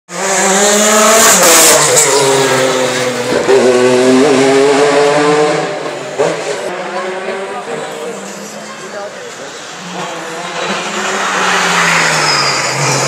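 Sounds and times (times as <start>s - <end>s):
race car passing at speed: 0.1s - 8.8s, 9.4s - 13.0s.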